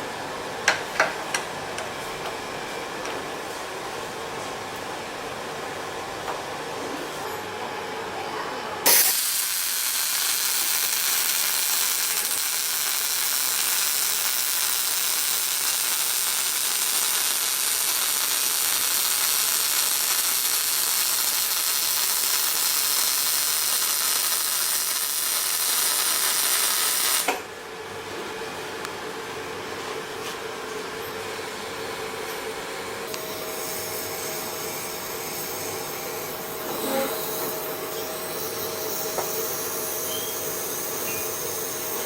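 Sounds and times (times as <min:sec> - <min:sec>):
workshop hum: 0:00.0 - 0:42.0.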